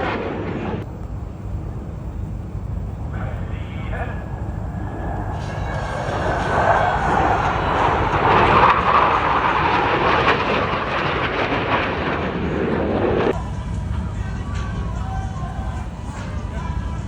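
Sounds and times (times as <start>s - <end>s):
military aircraft flying past: 0.0s - 17.0s.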